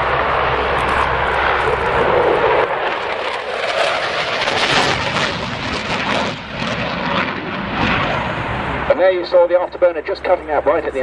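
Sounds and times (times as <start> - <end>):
jet engines roaring in afterburner: 0.0 - 11.0.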